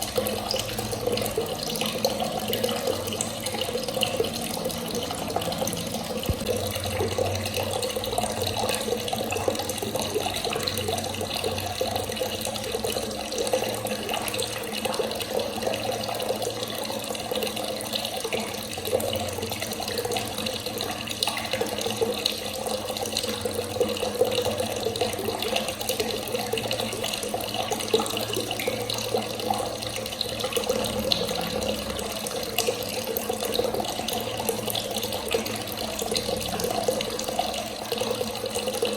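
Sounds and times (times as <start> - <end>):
water running from a tap: 0.0 - 38.9.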